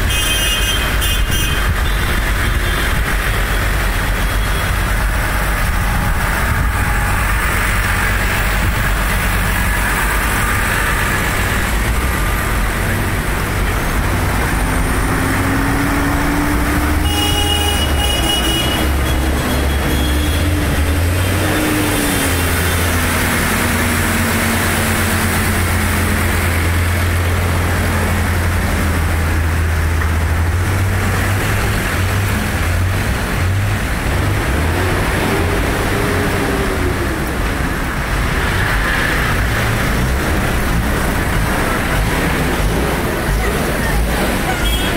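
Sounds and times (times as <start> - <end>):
tractor diesel engines droning: 0.0 - 44.9.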